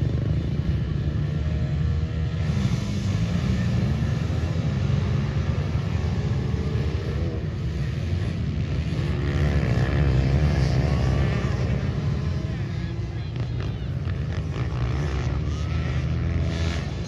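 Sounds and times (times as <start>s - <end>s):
pit bike engines revving: 0.0s - 17.0s.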